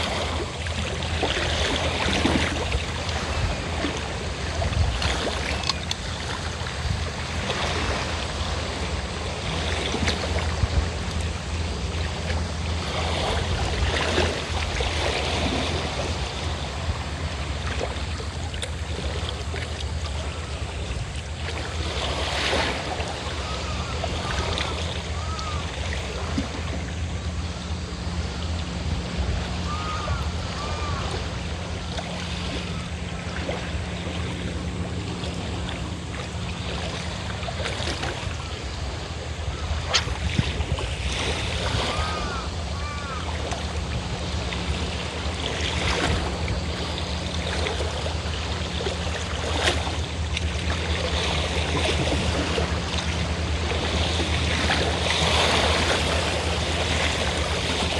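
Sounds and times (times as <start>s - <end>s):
boat engine drone: 0.0s - 57.9s
sea waves washing ashore: 0.0s - 57.9s.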